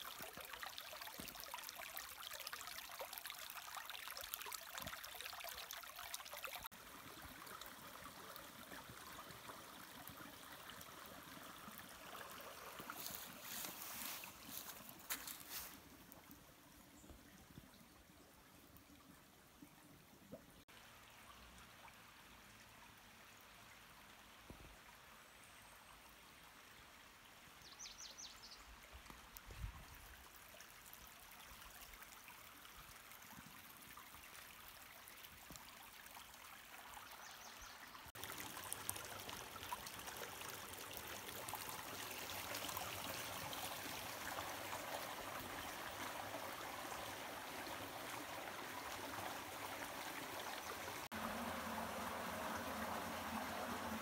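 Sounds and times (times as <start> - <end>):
creek water running over rocks: 0.0 - 54.0.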